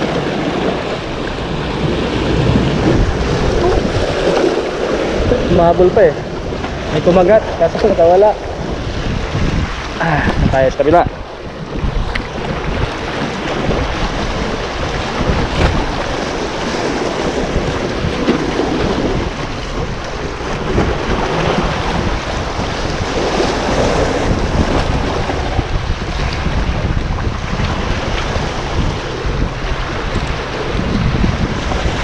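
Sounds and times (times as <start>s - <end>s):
sea waves washing over rocks: 0.0s - 32.0s
wind buffeting microphone: 0.0s - 32.0s.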